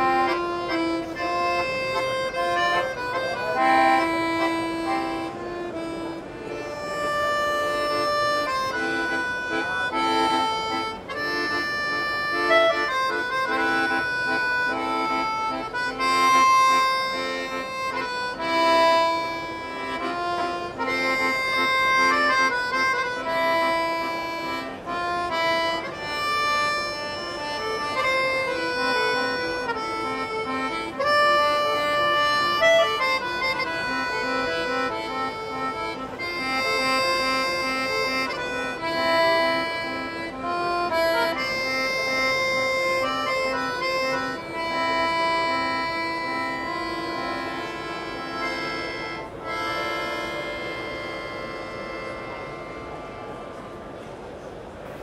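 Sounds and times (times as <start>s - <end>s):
accordions playing a tune: 0.0s - 55.0s.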